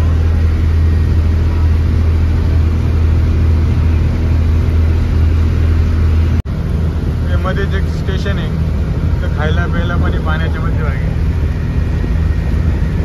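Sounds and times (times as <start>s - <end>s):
boat engine low drone: 0.0s - 13.0s.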